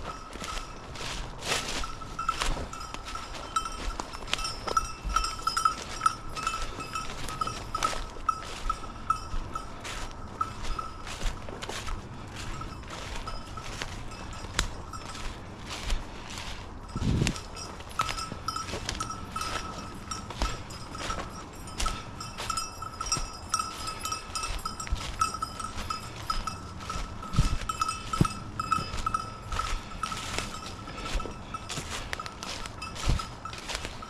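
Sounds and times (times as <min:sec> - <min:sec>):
dog bell collar jingling: 0:00.0 - 0:15.8, 0:16.8 - 0:34.0
footsteps in undergrowth: 0:00.0 - 0:34.0.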